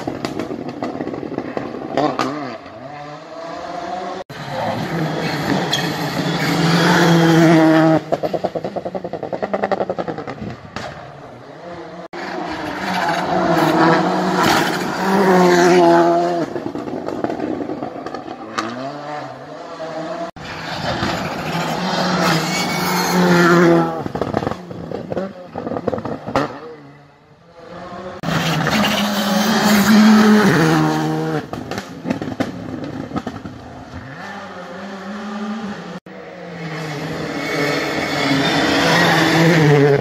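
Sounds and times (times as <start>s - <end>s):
rally car engine passing: 0.0s - 40.0s.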